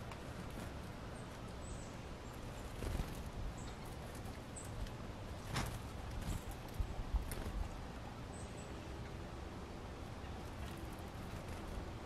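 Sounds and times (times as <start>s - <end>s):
birds pecking at seeds: 0.0s - 8.0s, 9.8s - 12.0s.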